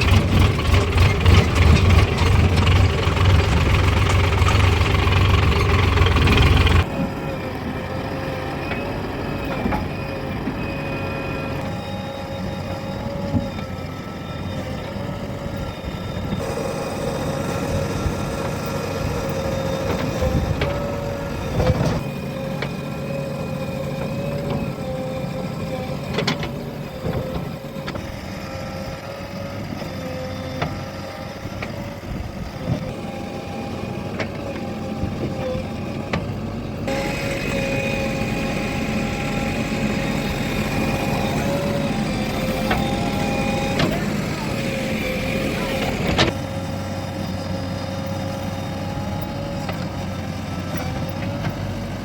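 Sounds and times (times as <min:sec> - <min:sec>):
diesel engines running: 0:00.0 - 0:52.0
held whine: 0:00.0 - 0:52.0.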